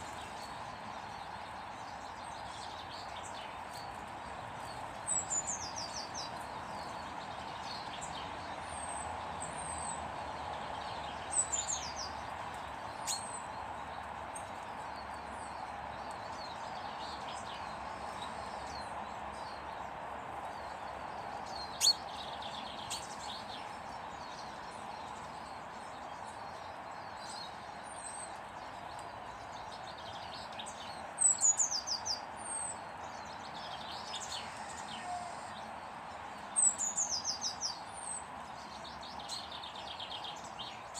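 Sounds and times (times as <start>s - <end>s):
small birds chirping: 0.0s - 40.9s
steady background noise: 0.0s - 40.9s.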